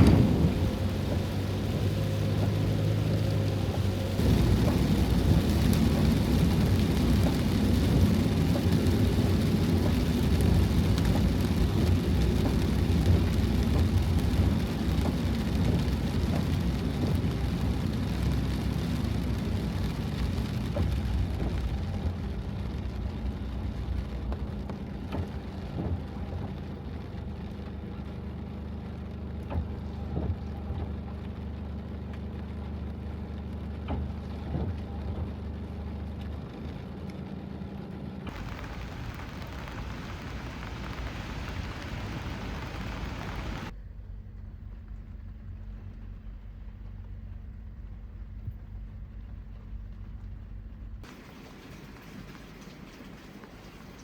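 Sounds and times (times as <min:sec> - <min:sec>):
heavy rain on a vehicle roof: 0:00.0 - 0:43.8, 0:44.8 - 0:54.0.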